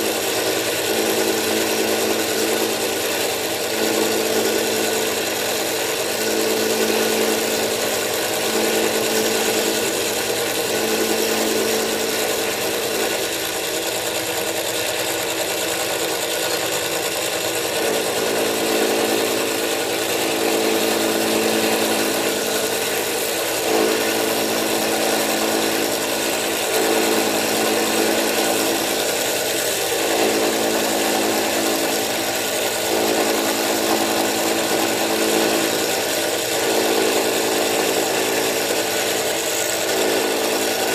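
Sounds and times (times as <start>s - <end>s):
cutter hissing on metal: 0.0s - 40.9s
milling machine motor hum: 0.0s - 40.9s.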